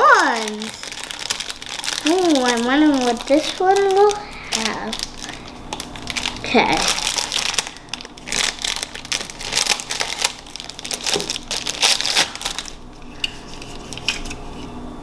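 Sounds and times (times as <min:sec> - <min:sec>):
crinkly packaging being crumpled: 0:00.0 - 0:14.4.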